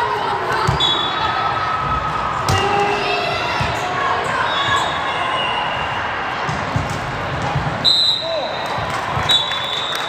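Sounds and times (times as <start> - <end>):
murmur of spectators: 0.0 - 10.0.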